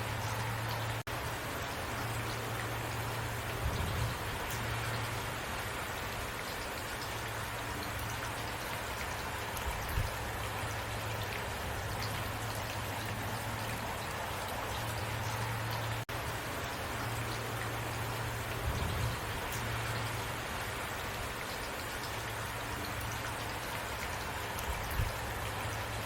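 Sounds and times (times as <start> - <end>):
heavy rain falling: 0.0 - 26.0
raindrops ticking: 0.0 - 26.0.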